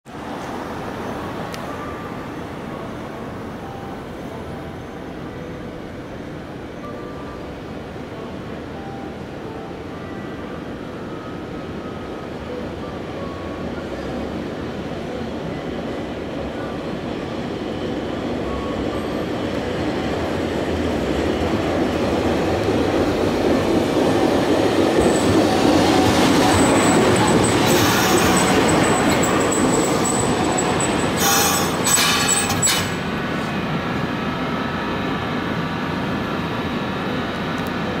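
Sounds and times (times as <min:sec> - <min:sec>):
electric tram passing: 0:00.1 - 0:38.0.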